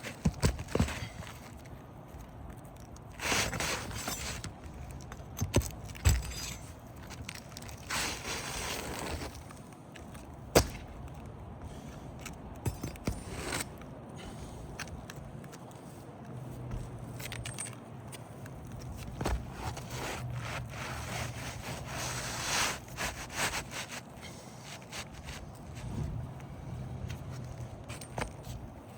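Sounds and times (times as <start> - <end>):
tools scraping roof shingles: 0.0 - 1.8, 3.1 - 15.8, 16.6 - 28.9.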